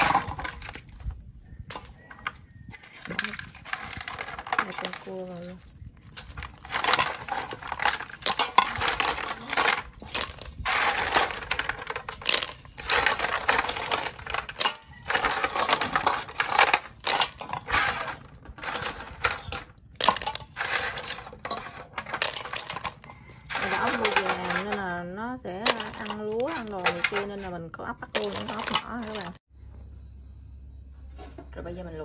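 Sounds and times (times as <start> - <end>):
snail shells clattering in metal pot: 0.0 - 29.5.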